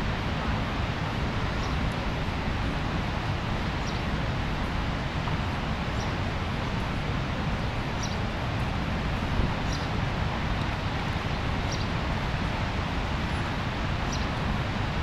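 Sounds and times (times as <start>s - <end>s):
waterfall rush: 0.0s - 15.0s.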